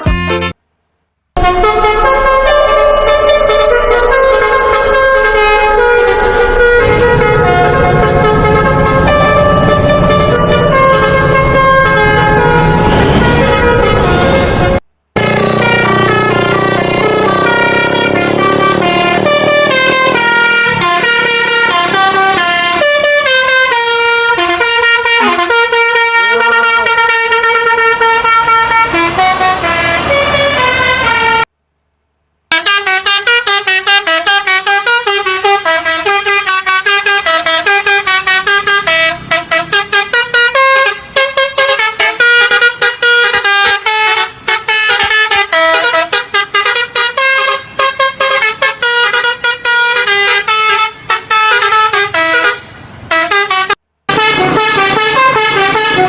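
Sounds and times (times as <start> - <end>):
multi-tone bus horn melody: 0.0 - 0.6, 1.4 - 31.5, 32.5 - 56.0.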